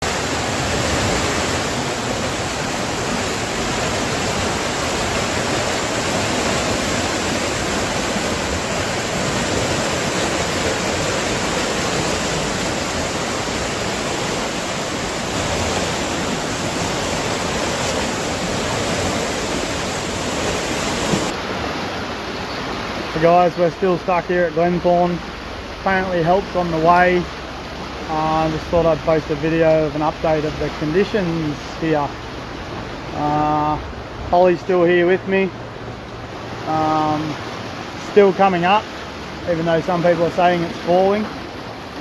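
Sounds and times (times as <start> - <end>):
floodwater rushing: 0.0 - 42.0.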